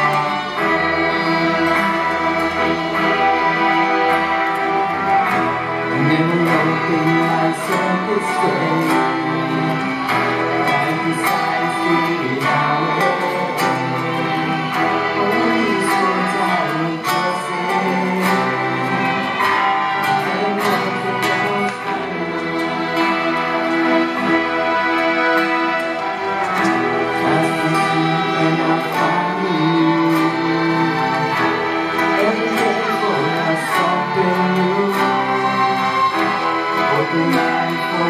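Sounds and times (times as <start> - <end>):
acoustic guitars strumming: 0.0 - 38.0
violin melody: 0.0 - 38.0.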